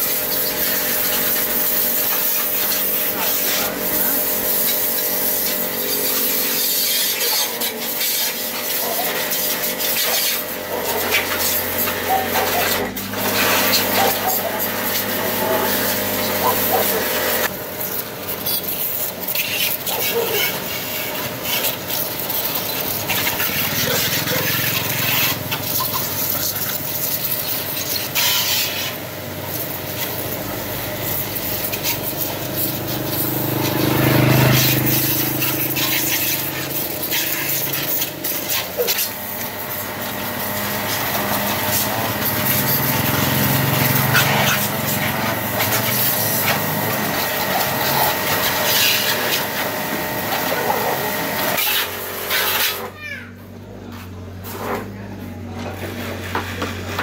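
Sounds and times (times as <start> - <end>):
hand tool scraping: 0.1 - 29.0, 31.1 - 52.9, 53.9 - 55.0.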